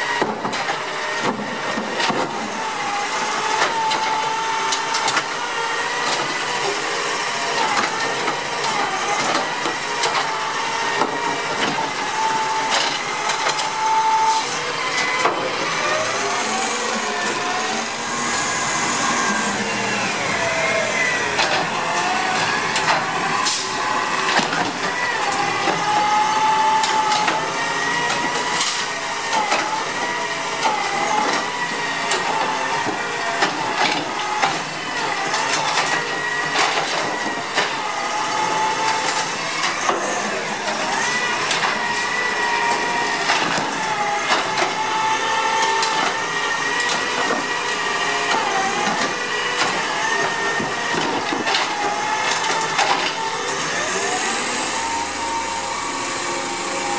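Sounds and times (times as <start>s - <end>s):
garbage truck engine and hydraulics whining: 0.0s - 56.9s.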